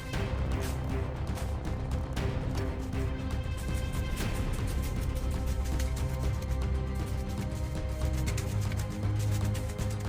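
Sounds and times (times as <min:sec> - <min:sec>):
background music with heavy bass: 0:00.0 - 0:10.0.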